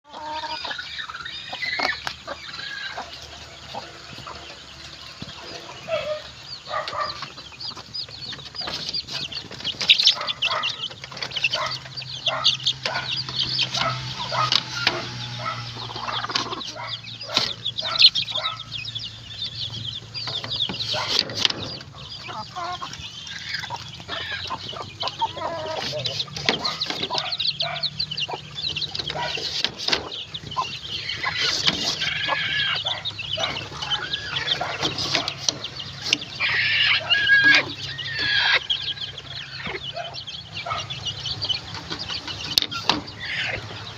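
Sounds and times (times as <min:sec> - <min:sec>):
chickens clucking and calling: 0:00.0 - 0:43.9.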